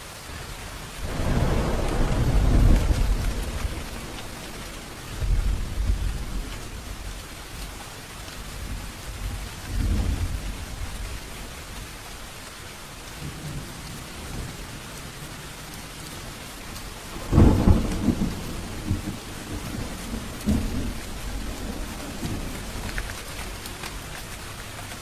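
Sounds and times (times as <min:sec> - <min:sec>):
steady rain falling: 0:00.0 - 0:25.0
thunder clap and rumbles: 0:00.9 - 0:12.3, 0:13.1 - 0:25.0.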